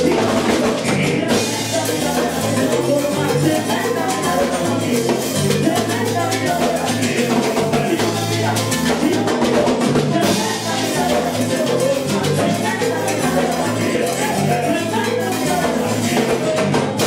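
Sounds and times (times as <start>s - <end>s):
bass line: 0.0s - 17.0s
drum kit and percussion: 0.0s - 17.0s
salsa band playing live: 0.0s - 17.0s.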